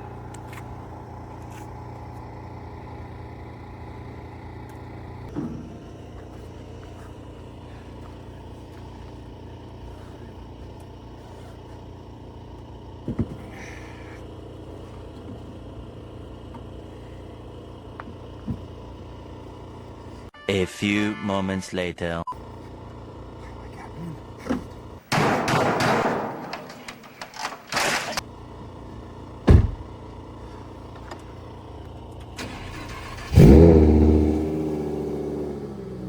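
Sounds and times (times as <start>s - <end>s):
car engine running at low revs: 0.0s - 20.4s, 22.3s - 36.0s.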